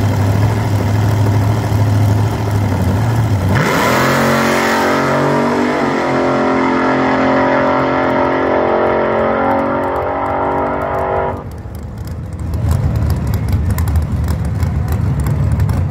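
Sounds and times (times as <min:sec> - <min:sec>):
dragster engine at full throttle: 0:00.0 - 0:15.9.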